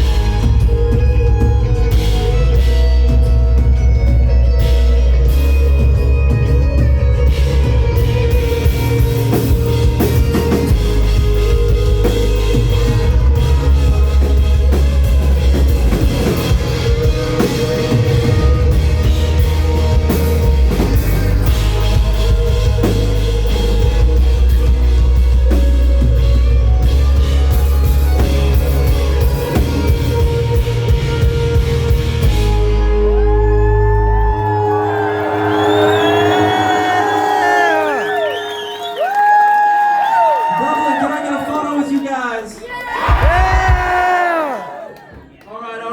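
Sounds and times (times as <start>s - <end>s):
heavy bass notes: 0.0s - 38.5s
drum kit: 0.0s - 40.3s, 43.0s - 44.6s
rock band playing: 0.0s - 42.0s, 42.9s - 44.7s.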